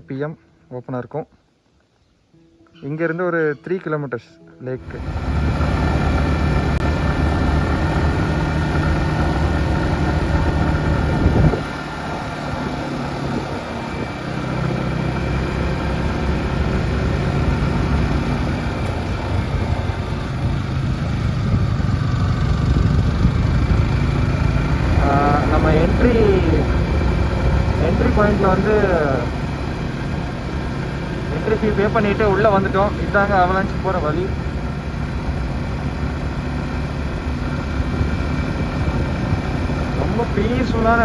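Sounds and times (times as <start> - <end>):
motorcycle engine running: 4.8 - 41.0.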